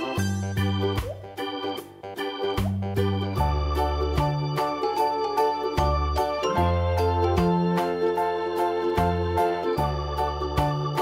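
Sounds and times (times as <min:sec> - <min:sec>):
electronic keyboard music with beat: 0:00.0 - 0:11.0.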